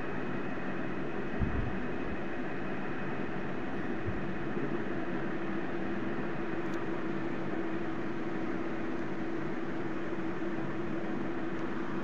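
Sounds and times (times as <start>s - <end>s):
steady machine hum and hiss: 0.0s - 12.0s.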